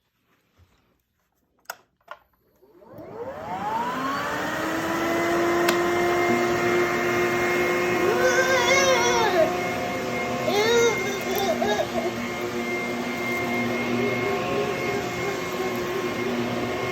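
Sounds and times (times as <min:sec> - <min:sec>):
vacuum cleaner motor whine: 0:02.6 - 0:16.9.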